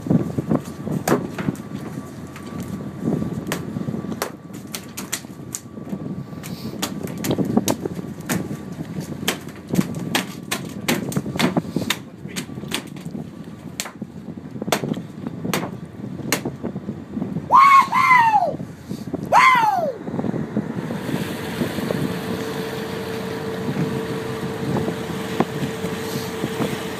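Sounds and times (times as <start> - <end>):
steady low rumble: 0.0 - 26.9.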